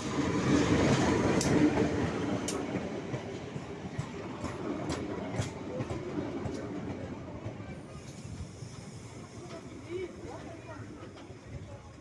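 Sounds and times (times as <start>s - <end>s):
train wheels rumbling and clicking: 0.0s - 12.0s.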